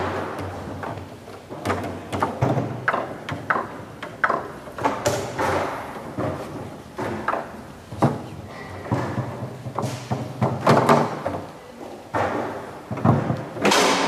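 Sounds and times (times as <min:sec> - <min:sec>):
foosball knocks and clacks: 0:00.0 - 0:14.0.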